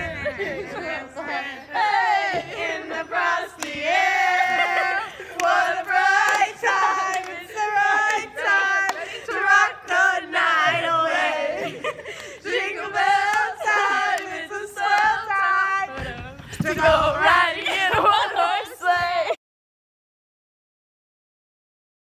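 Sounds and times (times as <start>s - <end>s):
young women yelling and singing: 0.0s - 19.4s.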